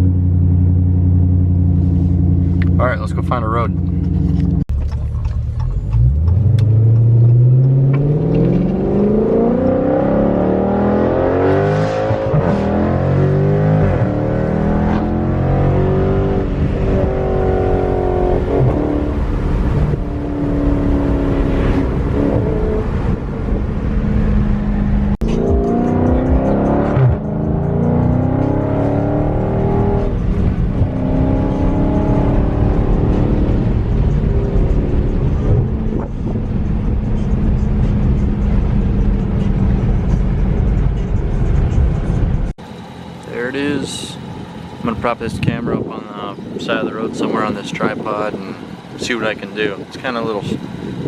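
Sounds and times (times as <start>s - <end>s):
car exhaust accelerating: 0.0s - 51.0s.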